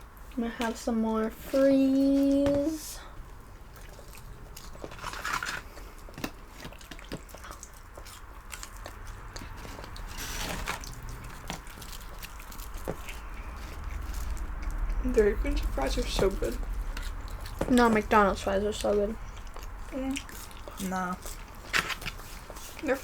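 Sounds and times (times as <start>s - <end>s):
chewing fried food: 0.0s - 23.0s
crunchy rustle: 0.2s - 23.0s.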